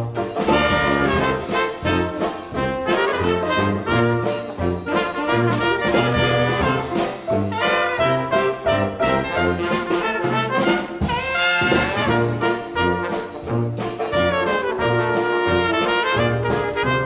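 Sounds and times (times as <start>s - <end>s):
brass background music: 0.0s - 17.0s
rhythmic bass line: 0.0s - 17.0s.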